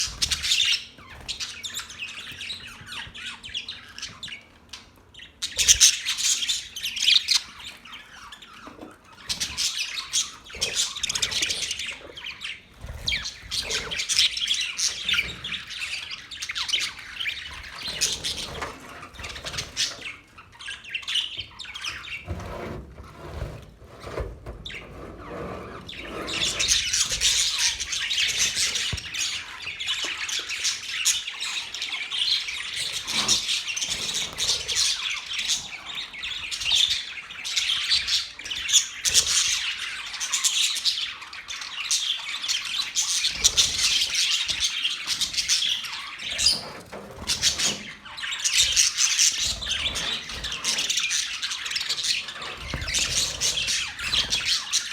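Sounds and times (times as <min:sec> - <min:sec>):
parrots chirping and squawking: 0:00.0 - 0:22.4, 0:24.4 - 0:54.9.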